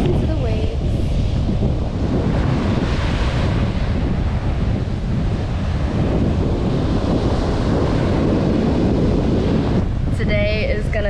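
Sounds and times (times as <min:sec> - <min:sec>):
ocean waves breaking: 0:00.0 - 0:11.0
wind buffeting microphone: 0:00.0 - 0:11.0.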